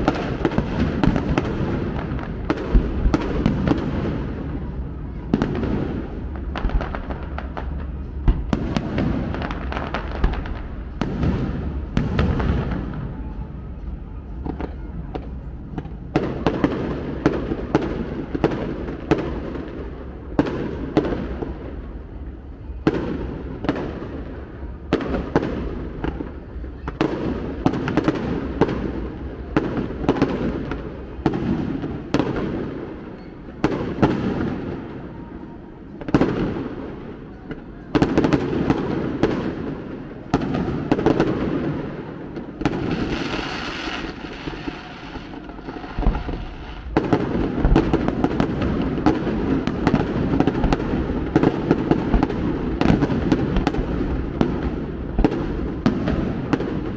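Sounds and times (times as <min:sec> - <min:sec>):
fireworks bursting with echo: 0:00.0 - 0:56.9.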